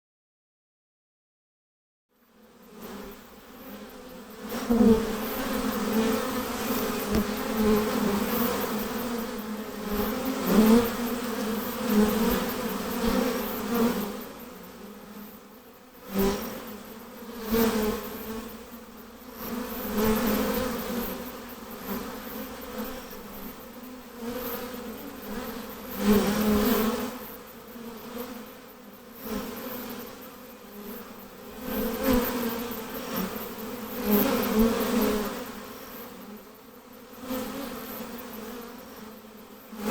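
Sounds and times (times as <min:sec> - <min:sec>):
honey bees buzzing: 0:02.3 - 0:39.9.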